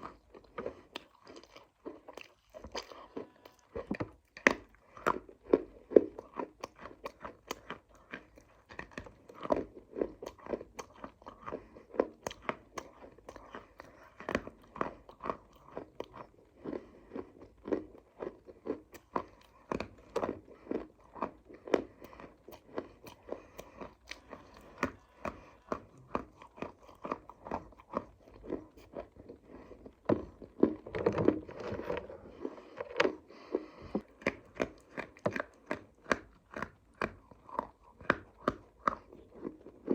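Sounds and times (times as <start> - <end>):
crunching and chewing clay: 0.0 - 39.9.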